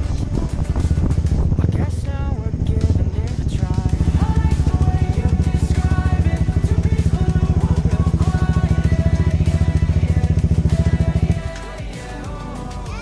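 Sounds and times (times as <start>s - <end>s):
motorcycle engine chugging: 0.0s - 12.6s
music: 0.0s - 13.0s.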